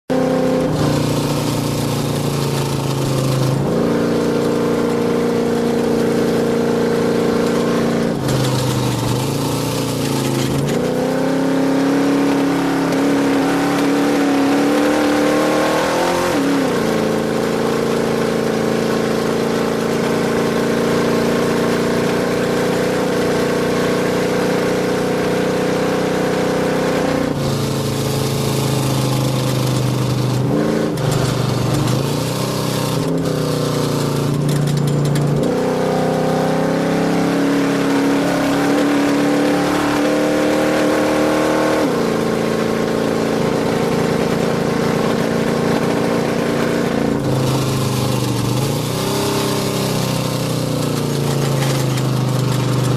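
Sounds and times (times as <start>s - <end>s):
race vehicle engine running hard: 0.1s - 52.9s.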